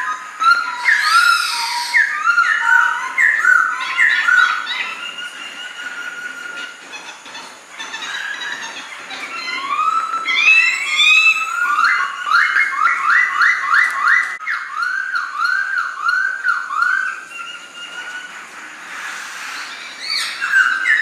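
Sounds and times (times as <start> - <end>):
bird singing whistled song: 0.0 - 21.0.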